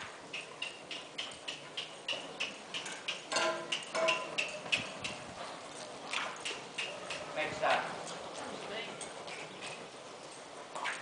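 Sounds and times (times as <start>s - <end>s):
hoofbeats and harness ticking: 0.0s - 11.0s.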